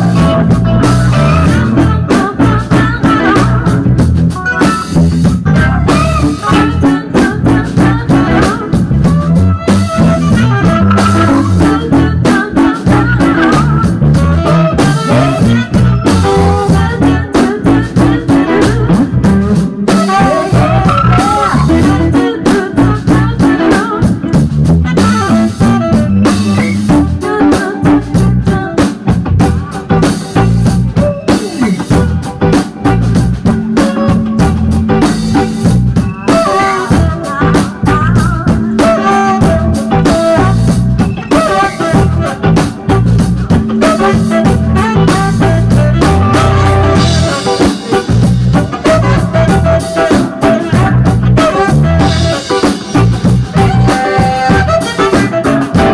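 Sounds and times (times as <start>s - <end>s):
drum kit: 0.0s - 55.9s
electric bass: 0.0s - 55.9s
electric guitar: 0.0s - 55.9s.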